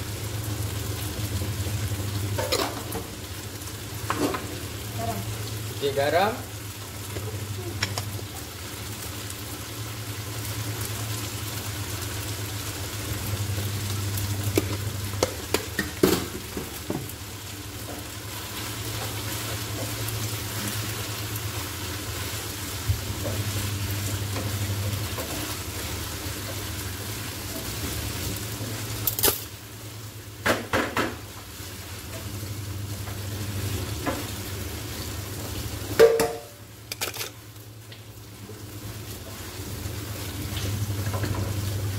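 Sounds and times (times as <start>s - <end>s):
food sizzling in a frying pan: 0.0s - 41.9s.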